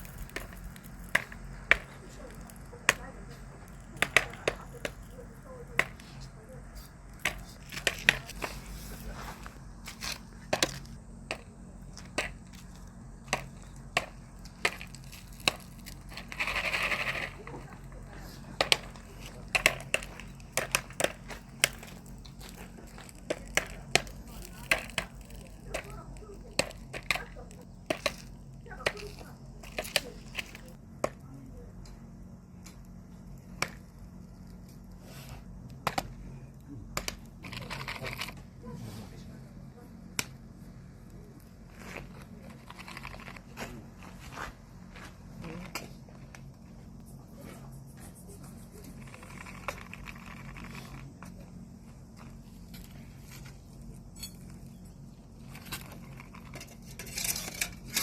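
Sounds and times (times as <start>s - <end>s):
popcorn kernels popping: 0.0s - 38.5s, 39.9s - 43.8s, 48.4s - 58.0s
steady low hum: 0.0s - 58.0s.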